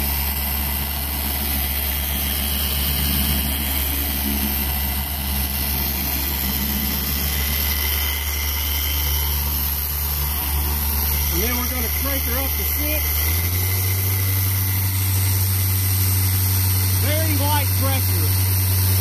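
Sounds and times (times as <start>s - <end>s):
polisher running: 0.0s - 19.0s.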